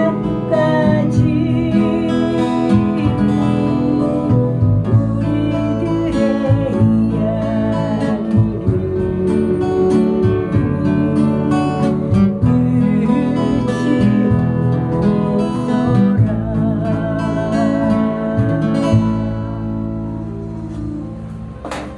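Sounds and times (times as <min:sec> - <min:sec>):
acoustic guitar strumming: 0:00.0 - 0:21.9
wavering held melody line: 0:00.0 - 0:21.9.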